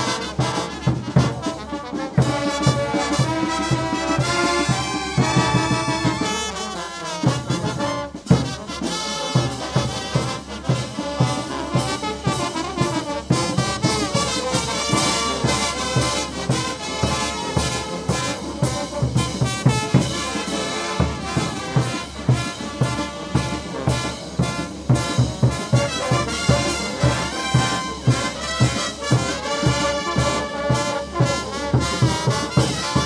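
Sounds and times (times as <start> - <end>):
brass band playing: 0.0 - 33.0
drum beat: 0.0 - 33.0.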